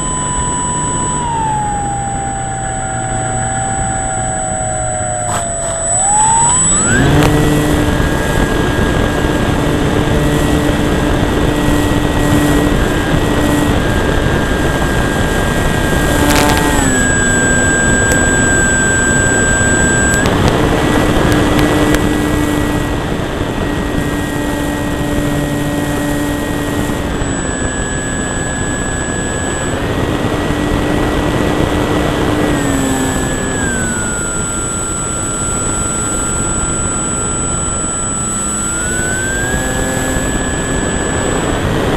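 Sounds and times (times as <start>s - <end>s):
model plane motor whine: 0.0s - 41.9s
rushing wind: 0.0s - 41.9s.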